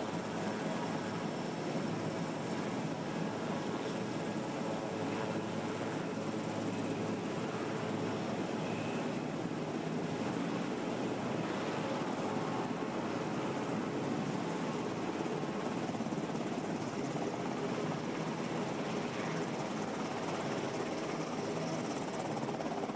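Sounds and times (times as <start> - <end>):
aircraft engines running: 0.0 - 22.9.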